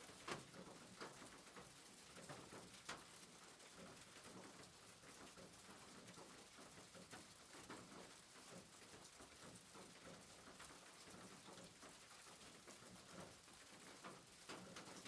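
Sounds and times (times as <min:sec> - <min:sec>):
rain pattering on a roof: 0:00.0 - 0:15.0.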